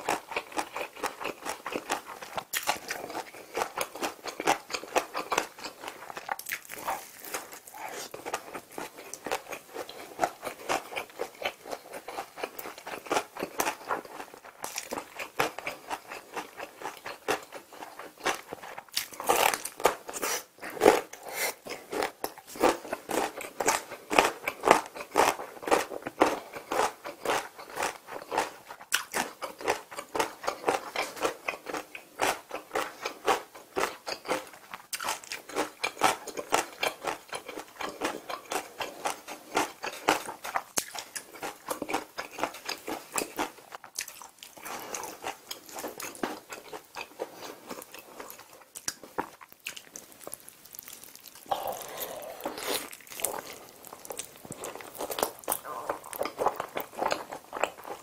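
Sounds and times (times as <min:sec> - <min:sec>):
chewing and crunching chicken: 0:00.0 - 0:58.0.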